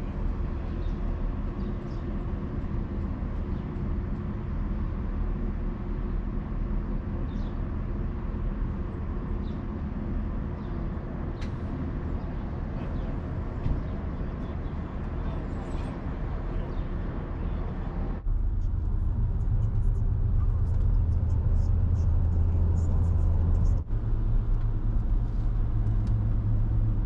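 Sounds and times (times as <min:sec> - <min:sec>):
vehicle engine and road rumble: 0:00.0 - 0:27.0.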